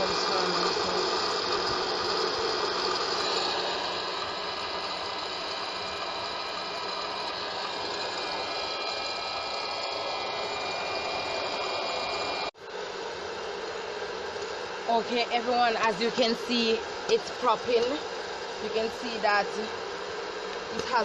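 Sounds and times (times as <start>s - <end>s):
popcorn popper fan blowing: 0.0s - 21.0s.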